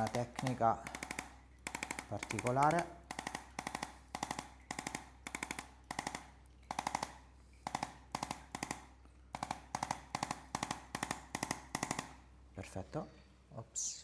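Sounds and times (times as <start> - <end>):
rapid mechanical clicking: 0.0 - 12.2.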